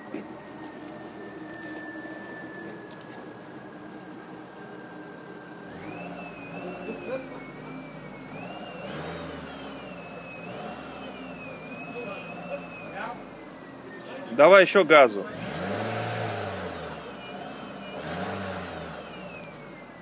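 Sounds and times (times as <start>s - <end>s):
vehicle engine running: 0.0s - 20.0s
thin high whistle: 0.3s - 3.5s, 4.6s - 15.3s, 16.4s - 20.0s.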